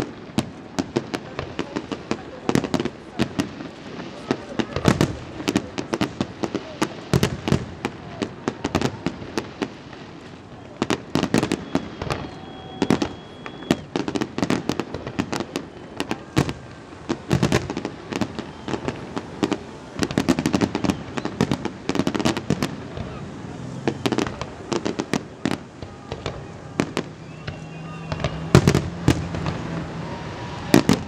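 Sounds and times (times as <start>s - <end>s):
fireworks bursts and crackling bangs: 0.0s - 31.0s.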